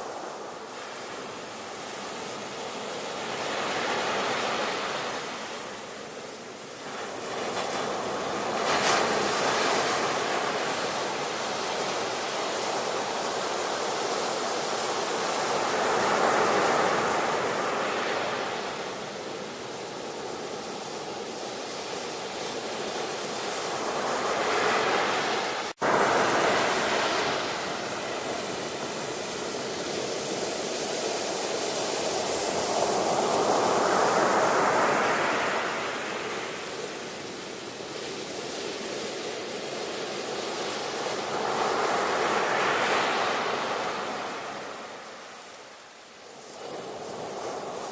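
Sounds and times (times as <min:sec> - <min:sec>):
waves breaking and washing in: 0:00.0 - 0:47.9.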